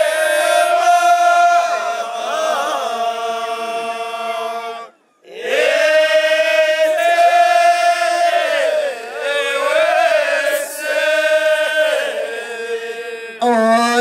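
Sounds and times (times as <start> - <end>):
men's chorus chanting in unison: 0.0 - 13.4.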